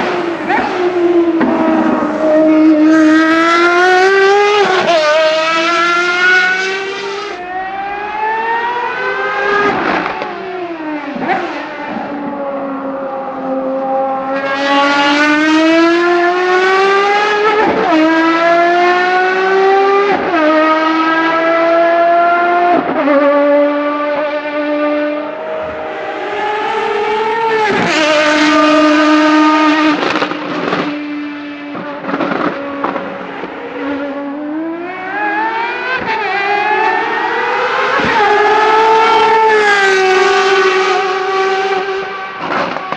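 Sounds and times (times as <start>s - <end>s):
car engine accelerating through gears: 0.0s - 42.9s.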